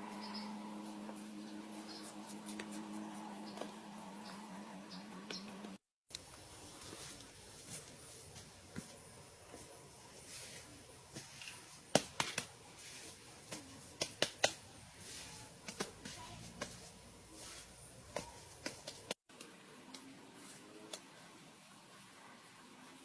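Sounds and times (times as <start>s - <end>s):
faint background noise: 0.0s - 23.0s.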